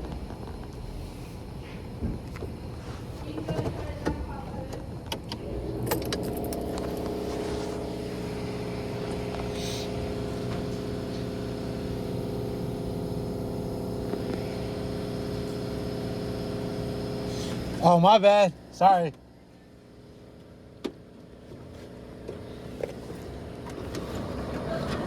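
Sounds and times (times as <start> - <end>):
truck engine idling: 0.9 - 25.0.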